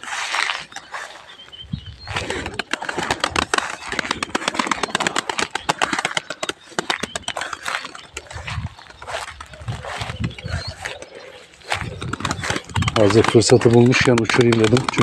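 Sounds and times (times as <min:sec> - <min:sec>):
pigeon wings flapping: 0:02.1 - 0:15.0.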